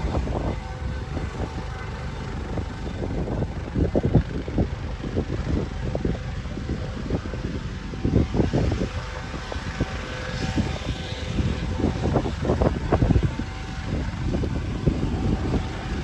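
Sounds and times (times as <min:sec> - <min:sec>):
helicopter running: 0:00.0 - 0:16.0
wind buffeting microphone: 0:00.0 - 0:16.0.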